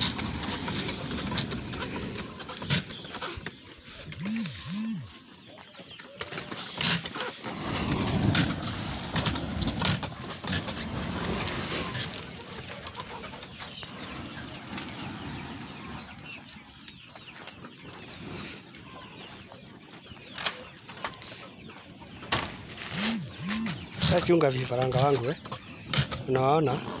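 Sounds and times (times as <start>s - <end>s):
birds calling: 0.0s - 7.3s, 9.8s - 27.0s.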